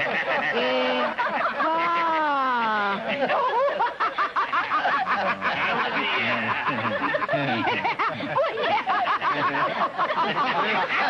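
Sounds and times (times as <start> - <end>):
people laughing together: 0.0 - 11.0
woman laughing: 0.2 - 4.0, 4.9 - 10.9.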